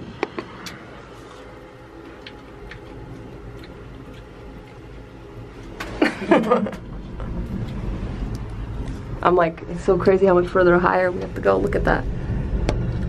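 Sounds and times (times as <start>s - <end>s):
gondola cabin rumble: 0.0s - 13.0s.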